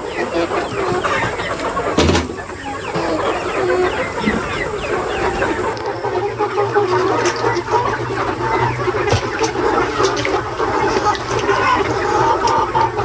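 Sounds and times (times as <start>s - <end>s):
chickens clucking and peeping: 0.0s - 13.0s.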